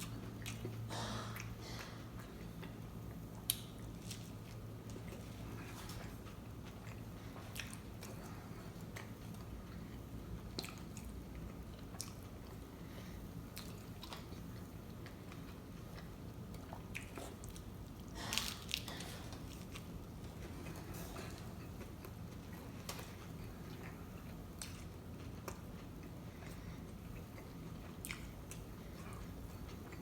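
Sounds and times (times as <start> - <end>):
low steady hum: 0.0 - 30.0
person chewing crunchy food: 0.0 - 30.0.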